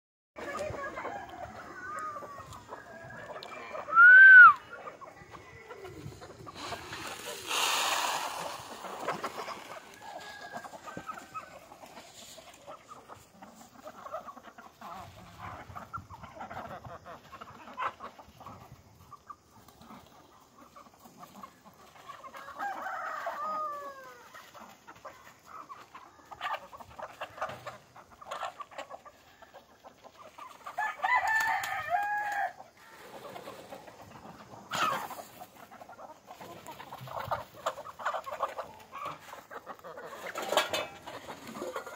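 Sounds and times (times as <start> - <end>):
chickens clucking: 0.4 - 41.9.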